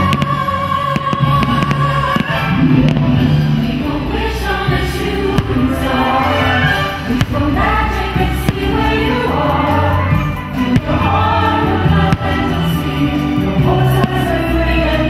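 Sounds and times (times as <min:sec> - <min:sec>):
choir singing with orchestra: 0:00.0 - 0:15.0.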